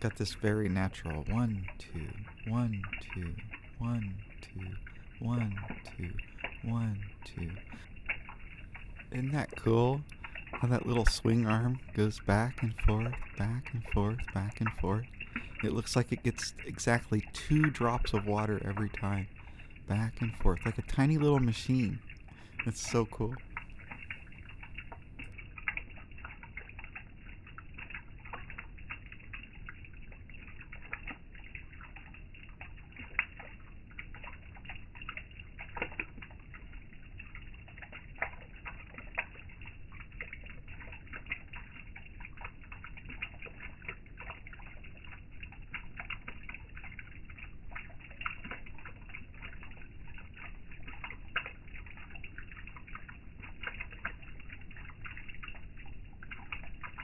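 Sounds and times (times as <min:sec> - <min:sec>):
water drip splashes: 0:00.0 - 0:57.0.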